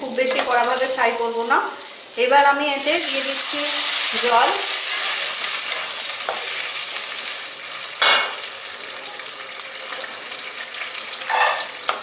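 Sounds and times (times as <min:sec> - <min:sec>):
onions and spices sizzling in oil: 0:00.0 - 0:12.0.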